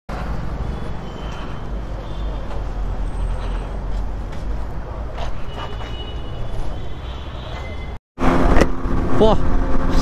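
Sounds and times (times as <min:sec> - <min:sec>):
street traffic rumble: 0:00.1 - 0:10.0.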